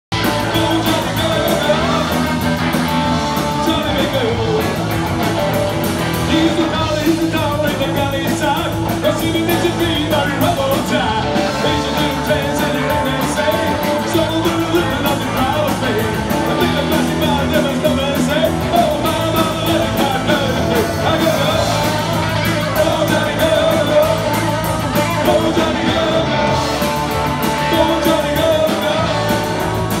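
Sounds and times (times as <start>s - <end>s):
man singing: 0.1s - 5.1s, 6.2s - 30.0s
electric guitars: 0.1s - 30.0s
steady drum beat: 0.1s - 30.0s.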